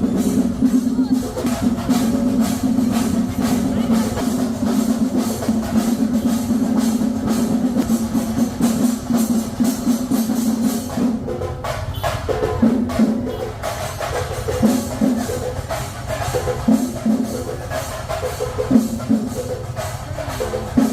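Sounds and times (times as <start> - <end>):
drums beating fast: 0.0 - 20.9.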